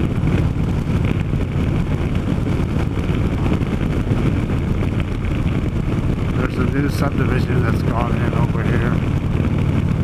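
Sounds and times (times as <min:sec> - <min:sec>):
motorcycle engine riding: 0:00.0 - 0:10.0.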